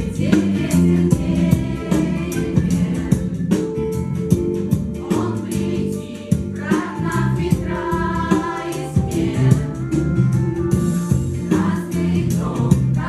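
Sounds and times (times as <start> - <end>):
choir singing with accompaniment: 0.0 - 13.0.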